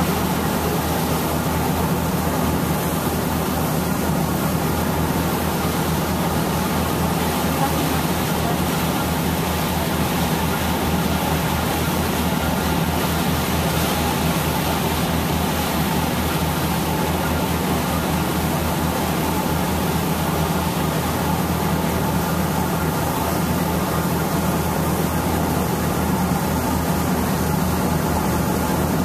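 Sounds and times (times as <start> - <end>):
boat engine humming: 0.0 - 29.0
rushing churning wake: 0.0 - 29.0.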